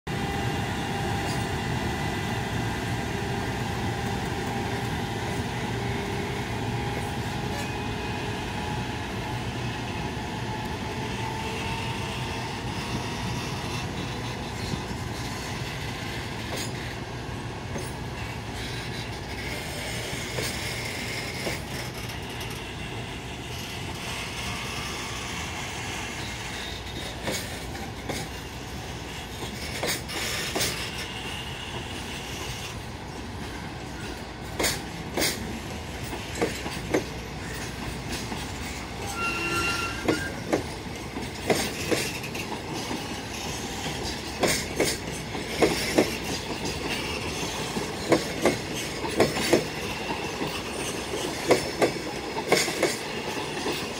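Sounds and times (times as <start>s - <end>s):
freight train wheels rumbling: 0.1s - 53.9s
wheels clacking over rail joints: 10.6s - 53.9s.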